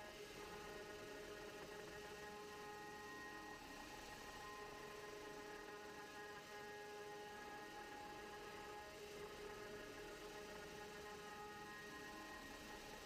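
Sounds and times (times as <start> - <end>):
router spindle humming: 0.0 - 13.0.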